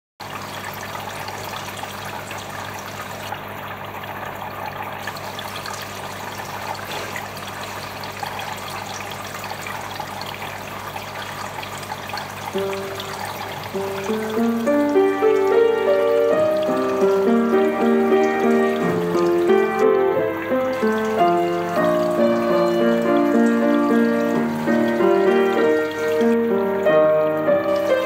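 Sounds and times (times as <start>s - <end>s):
water trickling in fish tank: 0.2s - 28.0s.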